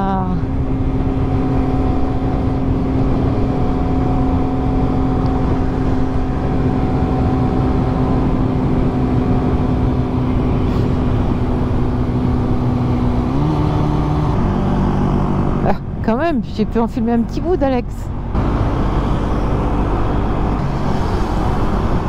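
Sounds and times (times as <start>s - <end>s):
motorcycle engine cruising: 0.0s - 17.4s, 18.0s - 22.0s
wind noise rumble: 0.0s - 22.0s.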